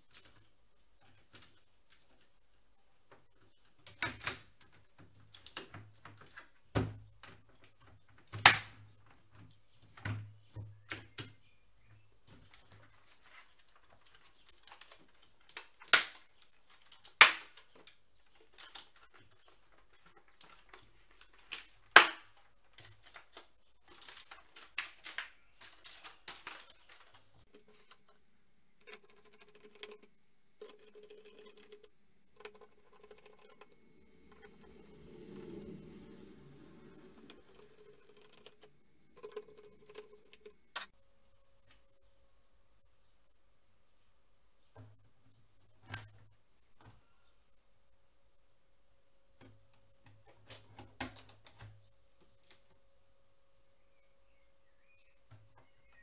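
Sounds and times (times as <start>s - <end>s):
quiet steady sound: 0.0s - 56.0s.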